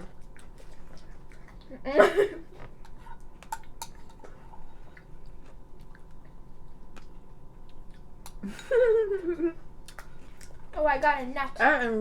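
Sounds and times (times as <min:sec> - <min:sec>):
close-miked chewing: 0:00.0 - 0:01.8, 0:02.6 - 0:11.6.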